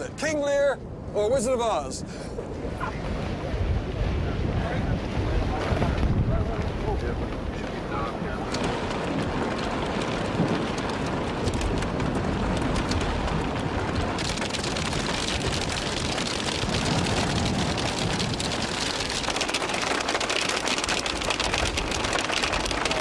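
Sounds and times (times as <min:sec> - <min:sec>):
heavy rain with wind: 0:00.0 - 0:23.0.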